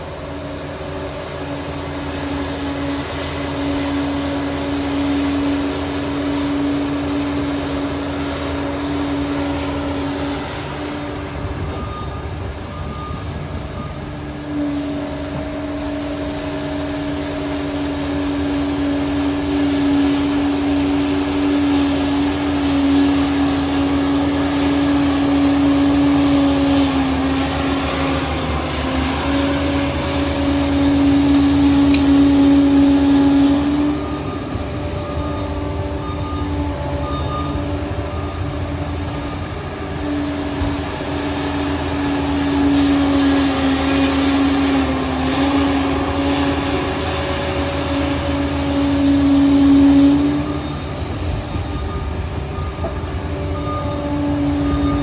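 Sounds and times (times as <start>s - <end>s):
dozer diesel engine running: 0.0s - 55.0s
steady whine: 0.0s - 55.0s.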